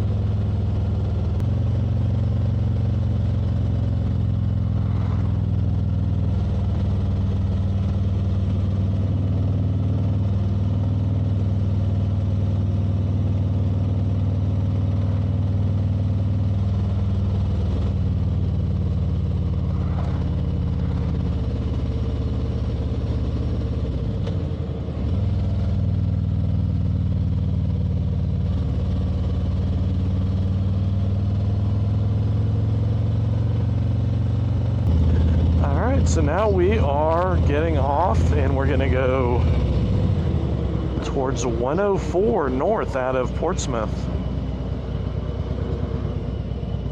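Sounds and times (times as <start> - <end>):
motorcycle engine cruising: 0.0 - 46.9
road and wind noise: 0.0 - 46.9.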